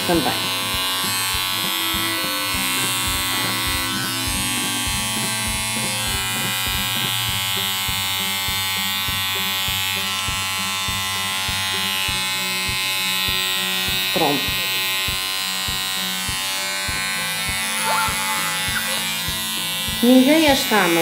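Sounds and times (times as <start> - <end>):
hair clipper buzzing: 0.0 - 21.0.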